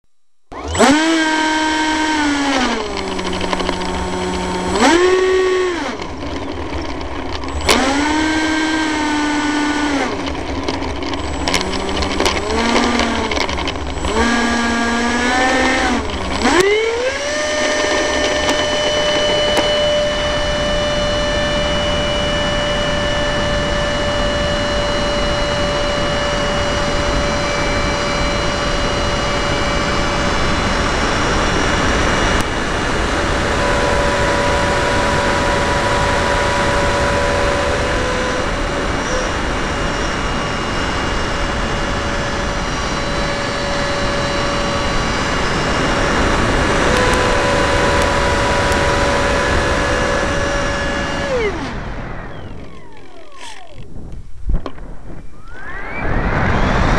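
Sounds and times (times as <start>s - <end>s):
model plane motor whine: 0.5s - 56.9s.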